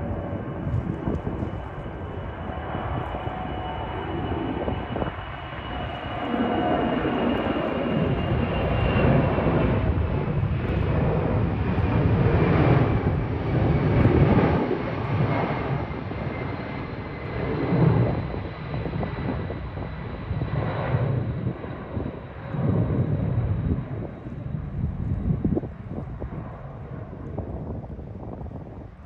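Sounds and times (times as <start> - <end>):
faint engine whine: 0.0 - 29.0
jet engines rumbling: 0.0 - 29.0.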